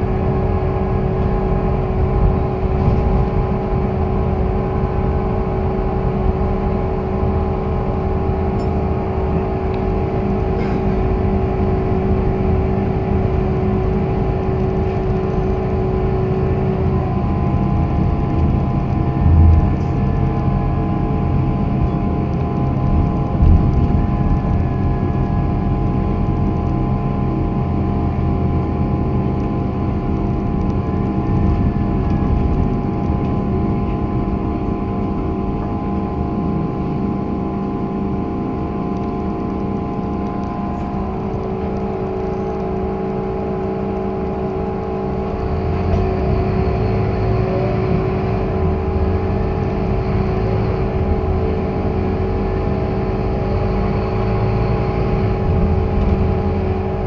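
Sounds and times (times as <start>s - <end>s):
bus engine rumble: 0.0s - 57.0s
steady whining tones: 0.0s - 57.0s.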